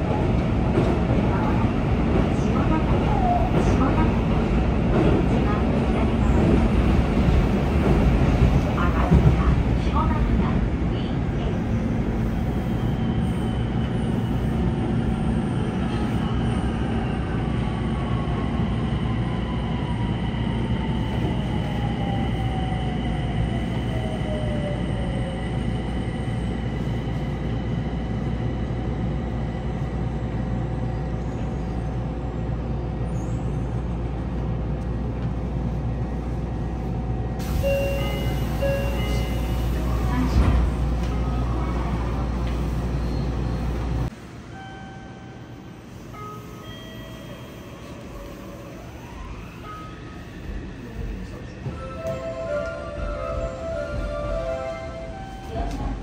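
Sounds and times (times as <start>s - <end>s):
train car rumble: 0.0s - 18.5s, 20.8s - 44.5s, 49.9s - 56.0s.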